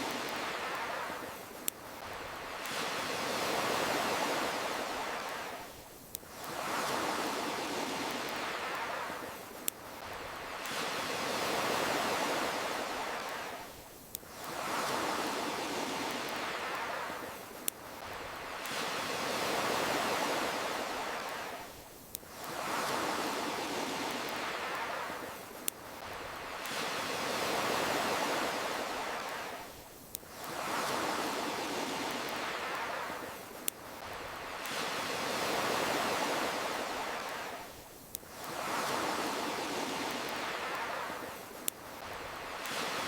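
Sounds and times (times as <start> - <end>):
campfire crackling pops: 0.0 - 7.4, 8.0 - 15.4, 16.0 - 23.1, 23.9 - 43.0
ocean waves washing in: 0.0 - 43.0.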